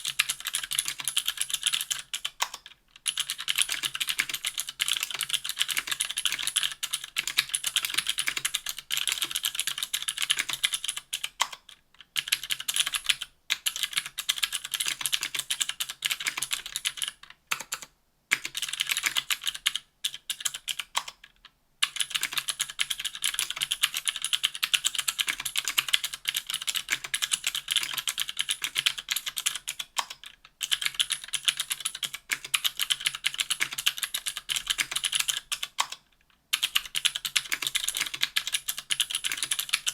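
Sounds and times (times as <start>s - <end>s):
clicky keyboard typing: 0.0s - 39.9s.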